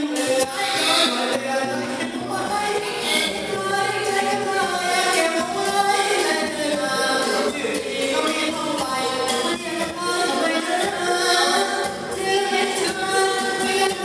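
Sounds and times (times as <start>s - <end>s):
instrumental accompaniment: 0.0s - 14.0s
person singing through pa: 0.0s - 14.0s.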